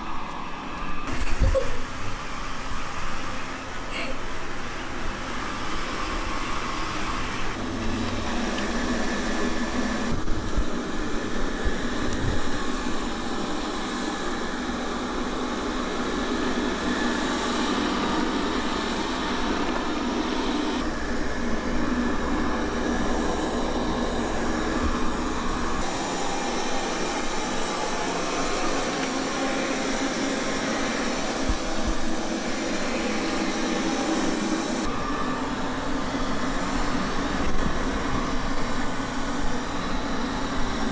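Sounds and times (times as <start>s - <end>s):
robot vacuum whirring: 5.4s - 40.9s.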